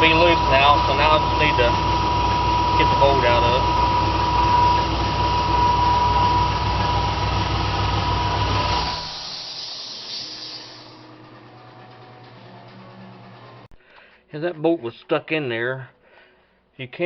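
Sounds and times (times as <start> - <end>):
machine high whine: 0.0 - 13.7
machine low drone: 0.0 - 13.7.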